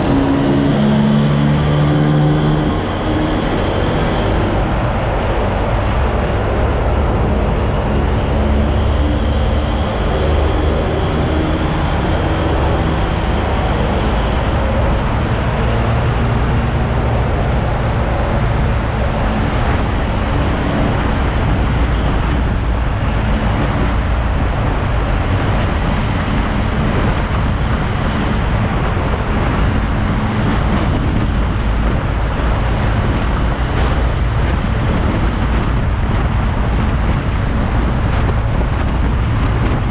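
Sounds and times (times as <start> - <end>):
motorcycle engine and road noise: 0.0 - 39.9.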